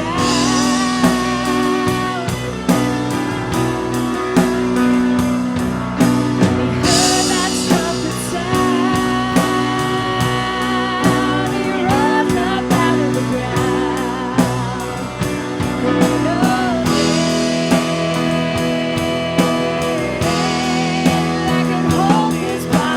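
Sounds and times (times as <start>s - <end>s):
person singing: 0.0s - 5.6s, 6.4s - 22.9s
guitar: 0.0s - 22.9s
steady drum beat: 0.0s - 22.9s.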